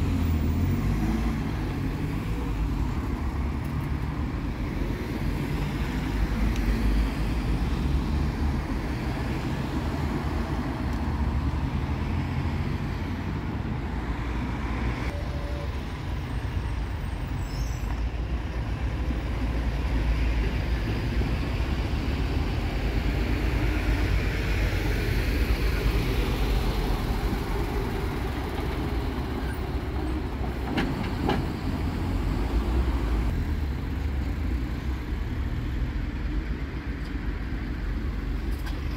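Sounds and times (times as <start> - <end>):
vehicles driving past: 0.0 - 38.9.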